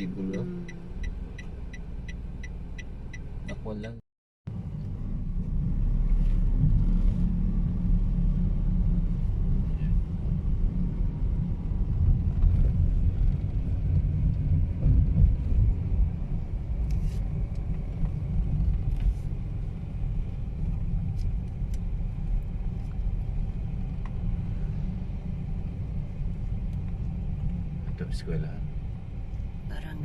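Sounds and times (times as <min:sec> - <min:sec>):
vehicle rumble in motion: 0:00.0 - 0:30.0.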